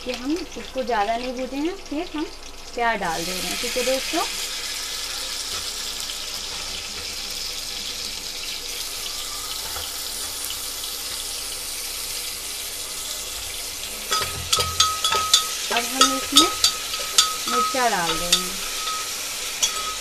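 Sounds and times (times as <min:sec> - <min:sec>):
onions frying hiss: 0:00.0 - 0:20.0.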